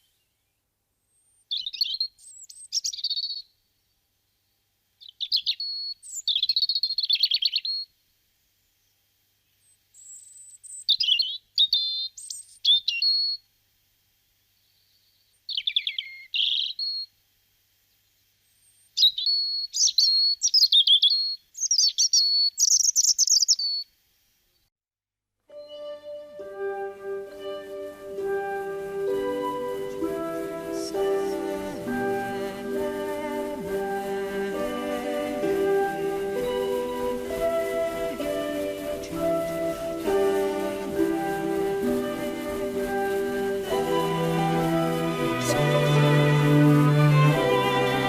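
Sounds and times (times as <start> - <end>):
robin singing: 1.4 - 3.5, 5.0 - 7.9, 9.6 - 13.4, 14.6 - 17.1, 18.8 - 23.9, 25.5 - 48.0.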